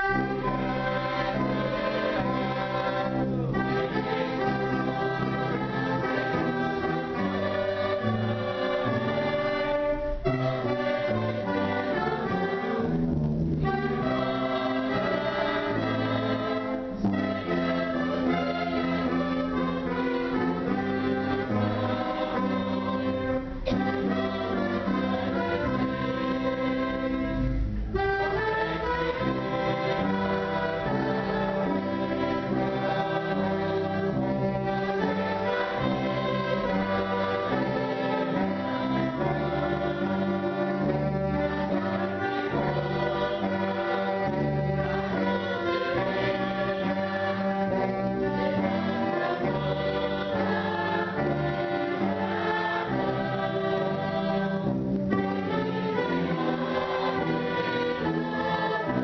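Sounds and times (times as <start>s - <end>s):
choir singing a hymn: 0.0s - 59.0s
orchestral accompaniment: 0.0s - 59.0s.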